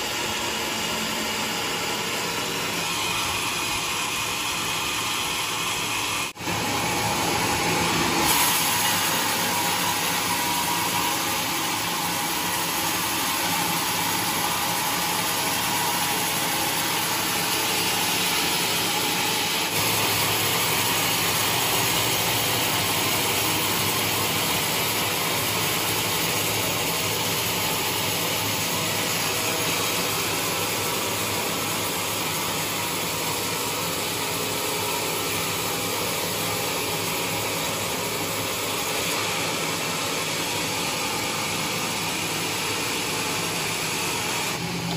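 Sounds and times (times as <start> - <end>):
band saw cutting log: 0.0 - 44.9.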